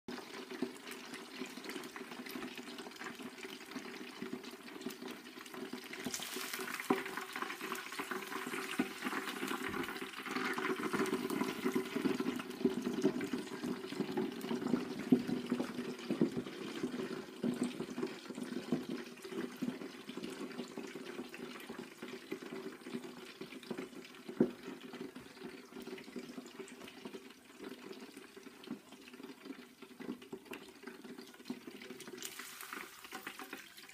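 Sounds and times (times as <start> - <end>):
hot fat bubbling in fryer: 0.1 - 33.9.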